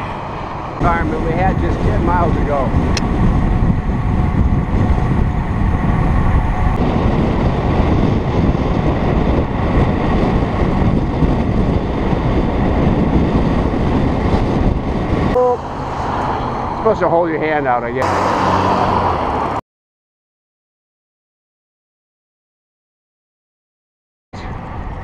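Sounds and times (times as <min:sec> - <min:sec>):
wind buffeting microphone: 0:00.0 - 0:19.6, 0:24.4 - 0:25.0.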